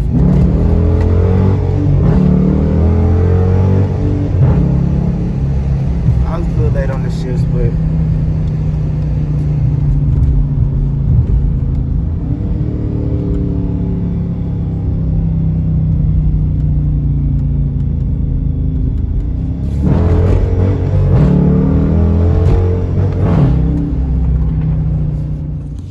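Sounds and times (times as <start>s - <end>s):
car engine droning in cabin: 0.0s - 25.9s.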